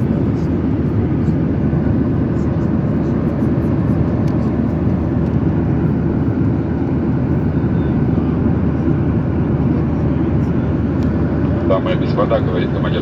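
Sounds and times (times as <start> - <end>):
airliner cabin jet noise: 0.0 - 13.0.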